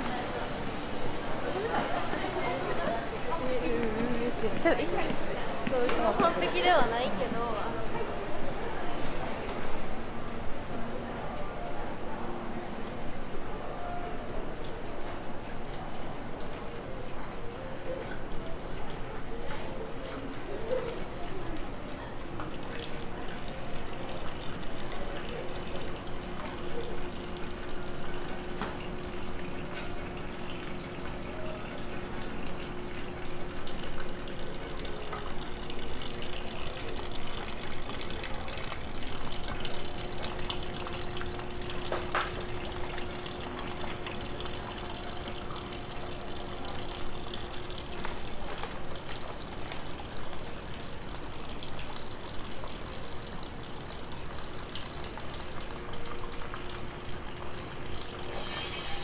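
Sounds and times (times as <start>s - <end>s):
water running into stone basin: 0.0s - 9.5s, 12.8s - 59.0s
faint steady hum: 0.8s - 59.0s.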